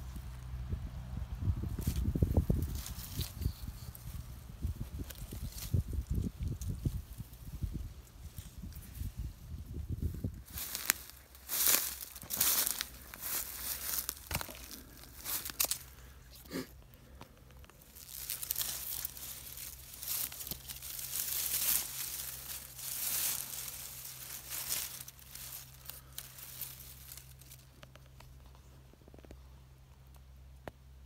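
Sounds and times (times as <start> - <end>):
rustling and crinkling: 1.6 - 30.9.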